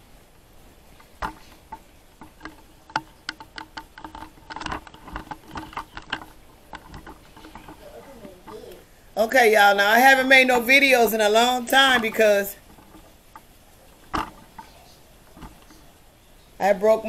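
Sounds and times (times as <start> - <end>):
light clicks and knocks: 0.3 - 17.0.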